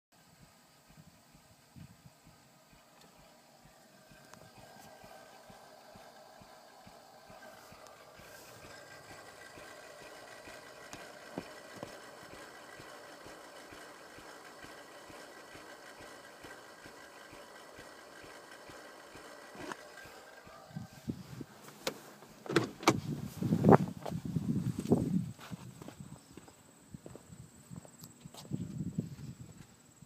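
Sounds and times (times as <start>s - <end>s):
steady thin whine: 0.2s - 25.9s
car engine idling faintly: 0.2s - 27.2s.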